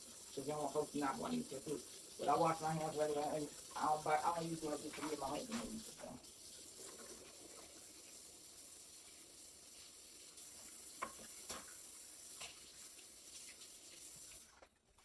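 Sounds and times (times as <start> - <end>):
food sizzling: 0.0 - 14.6.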